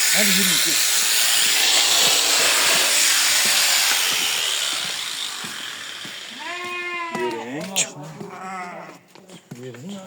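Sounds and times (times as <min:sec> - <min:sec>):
shearing clippers buzzing: 0:00.0 - 0:09.0.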